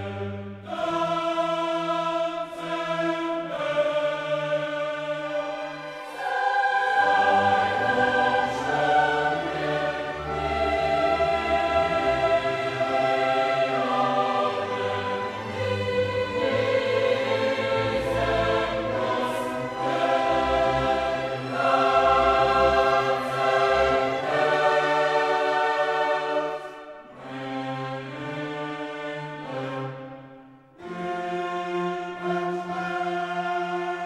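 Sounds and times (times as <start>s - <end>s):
choral and orchestral music: 0.0s - 34.0s.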